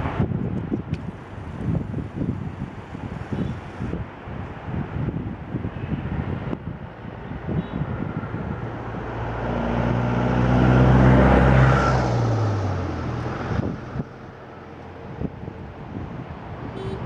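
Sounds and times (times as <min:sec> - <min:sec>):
car road noise and wind: 0:00.0 - 0:17.0
passing vehicle engine hum: 0:00.0 - 0:17.0.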